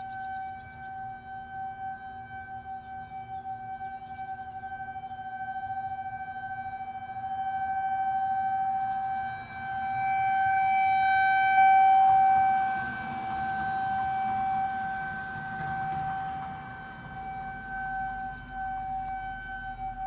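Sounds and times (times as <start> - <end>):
rotating warning siren: 0.0 - 20.0.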